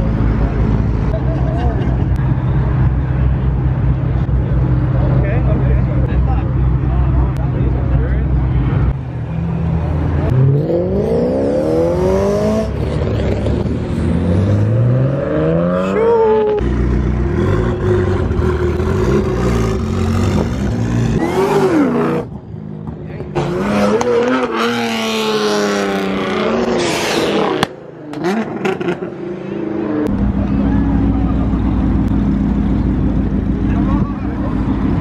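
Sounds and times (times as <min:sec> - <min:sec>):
car engine revving: 0:02.2 - 0:35.0.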